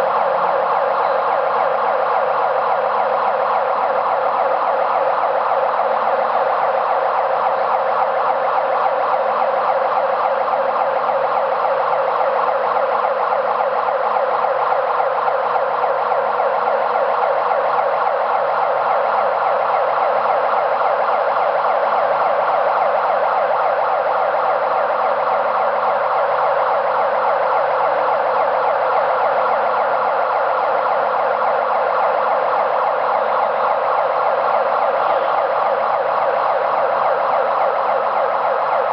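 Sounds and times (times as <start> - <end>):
crane warning siren: 0.0 - 38.9.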